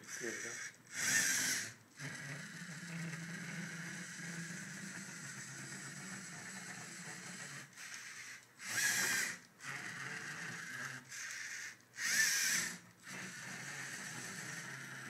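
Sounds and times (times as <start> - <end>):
robot motors and gears whirring: 0.0 - 15.0.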